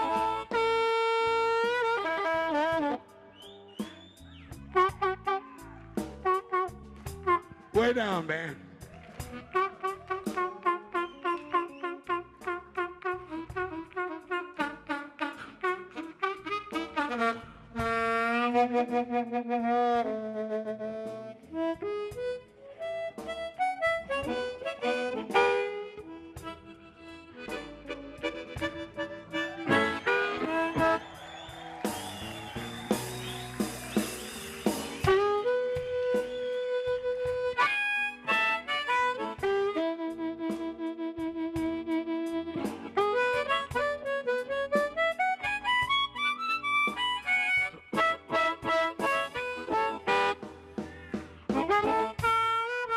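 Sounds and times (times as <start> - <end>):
blues harmonica: 0.0 - 52.9.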